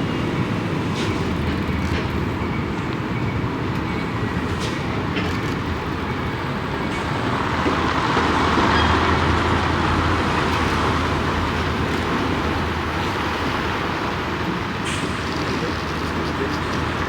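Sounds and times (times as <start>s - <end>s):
heavy vehicle engine hum: 0.0s - 17.0s
tyre and road noise: 0.0s - 17.0s.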